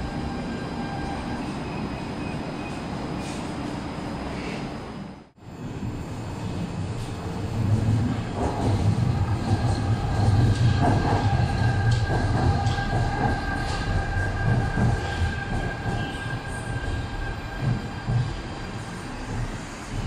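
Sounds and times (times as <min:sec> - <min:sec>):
train running and braking: 0:00.0 - 0:20.0.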